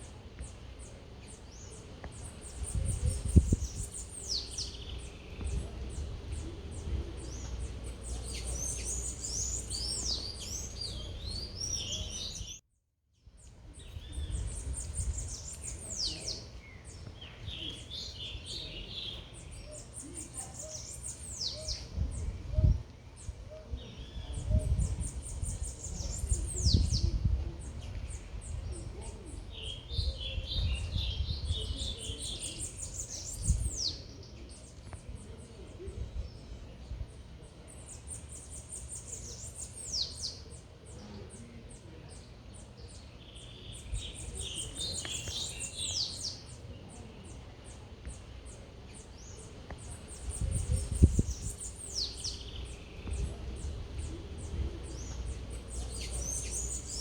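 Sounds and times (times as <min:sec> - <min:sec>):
lower bird chatter: 0:00.0 - 0:12.6, 0:13.4 - 0:57.0.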